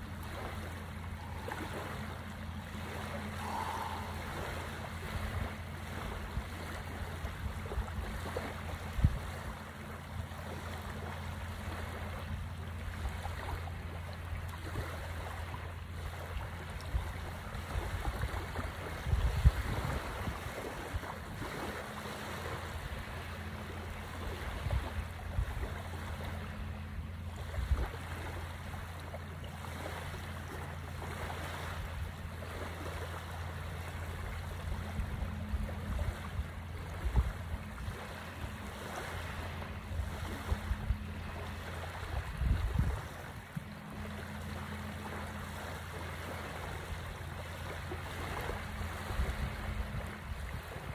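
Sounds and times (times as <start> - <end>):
wind rumble on microphone: 0.0 - 29.0, 29.7 - 50.9
waves lapping on shore: 0.0 - 50.9.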